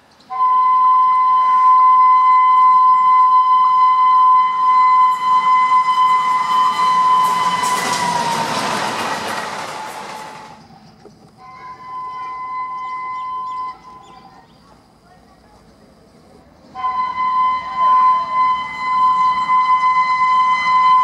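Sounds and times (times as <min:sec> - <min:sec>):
locomotive horn: 0:00.3 - 0:10.6, 0:11.4 - 0:14.3, 0:16.7 - 0:21.0
train rushing and clattering: 0:02.4 - 0:21.0.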